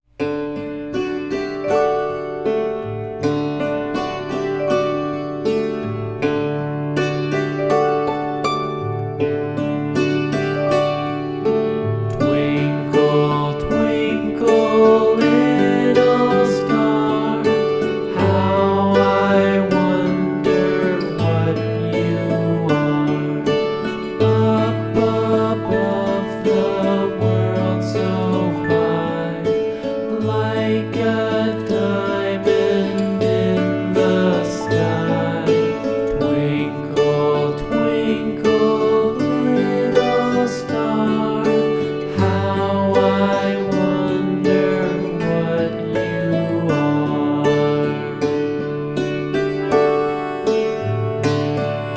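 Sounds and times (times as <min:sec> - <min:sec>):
song with plucked guitar: 0:00.0 - 0:51.9
person singing: 0:00.9 - 0:51.9.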